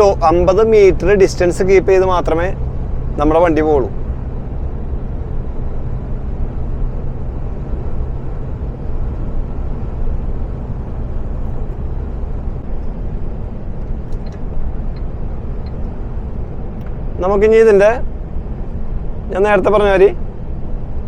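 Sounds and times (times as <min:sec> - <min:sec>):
diesel engine drone in cab: 0:00.0 - 0:21.0
road noise: 0:00.0 - 0:21.0.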